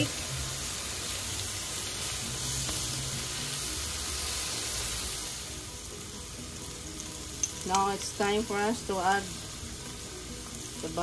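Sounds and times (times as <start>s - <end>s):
steaks sizzling in a pan: 0.0s - 11.0s.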